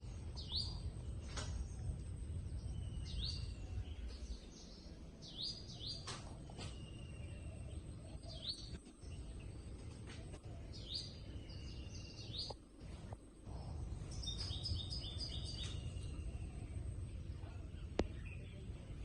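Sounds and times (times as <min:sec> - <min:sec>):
outdoor background noise: 0:00.0 - 0:19.0
wild birds chirping: 0:00.0 - 0:19.0.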